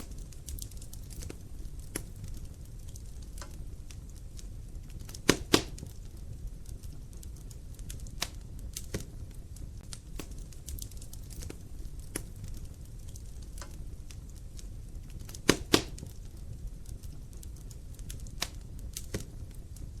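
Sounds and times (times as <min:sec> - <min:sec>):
sharp pops of burning wood: 0:00.0 - 0:09.2, 0:09.8 - 0:19.4
wood logs crackling in fireplace: 0:00.0 - 0:20.0.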